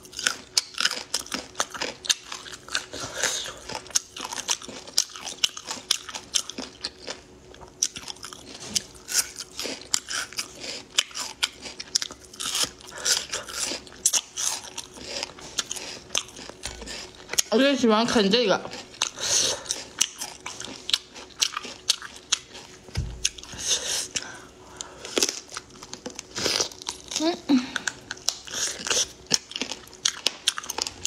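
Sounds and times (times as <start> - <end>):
person chewing crunchy food: 0.0 - 17.6, 18.6 - 31.0
faint steady hum: 0.0 - 31.0.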